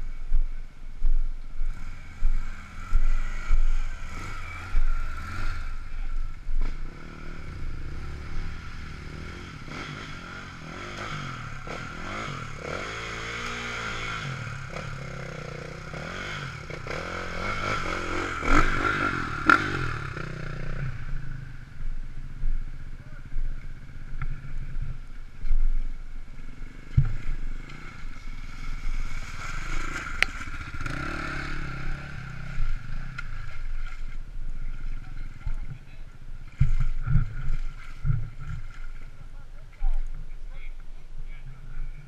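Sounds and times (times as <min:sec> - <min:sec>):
motorcycle engines revving: 0:01.5 - 0:39.3.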